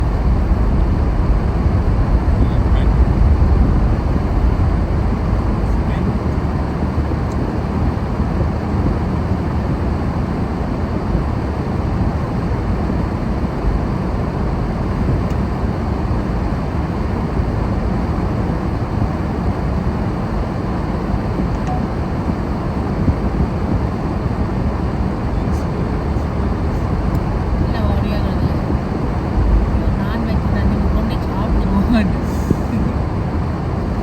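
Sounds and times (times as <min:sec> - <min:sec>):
wind blowing across microphone: 0:00.0 - 0:34.0.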